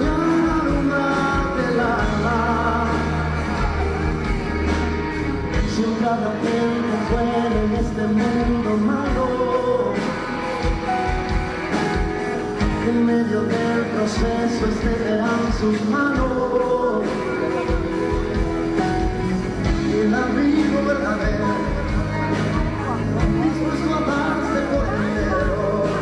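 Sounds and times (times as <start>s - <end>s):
drums: 0.0s - 26.0s
electric guitar: 0.0s - 26.0s
man singing lead vocals: 0.0s - 26.0s.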